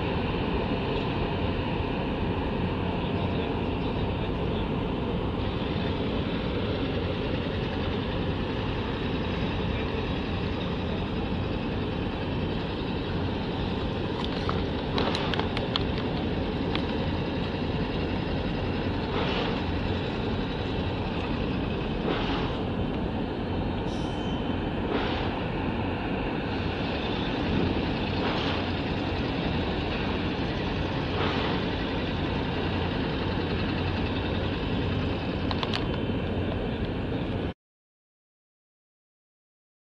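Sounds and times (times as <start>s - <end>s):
steady low rumble: 0.0s - 37.6s.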